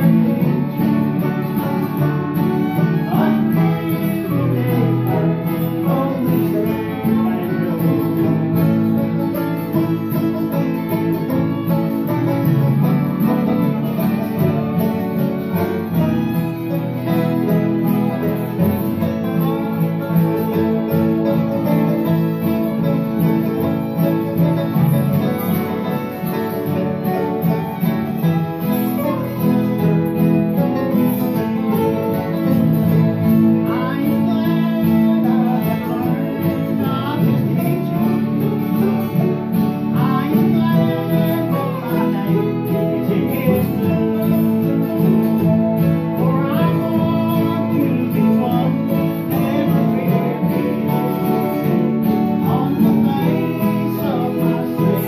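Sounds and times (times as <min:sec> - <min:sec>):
acoustic guitars strumming: 0:00.0 - 0:55.0
fiddles playing: 0:00.0 - 0:55.0.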